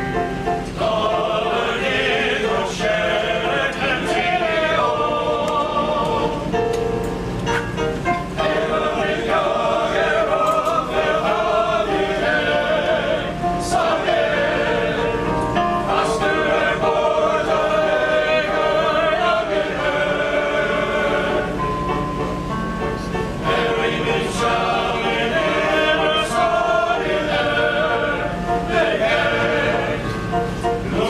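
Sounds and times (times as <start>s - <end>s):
male chorus singing: 0.7s - 6.7s, 8.4s - 22.0s, 23.3s - 31.0s.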